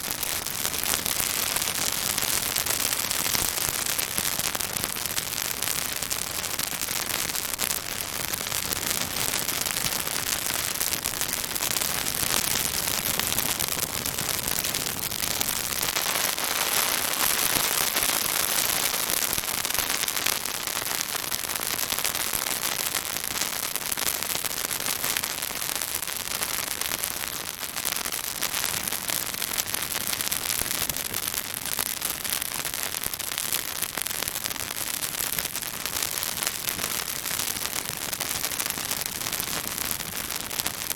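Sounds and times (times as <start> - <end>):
branches crackling in a bonfire: 0.0 - 40.9
steady hissing sizzle: 0.0 - 40.9.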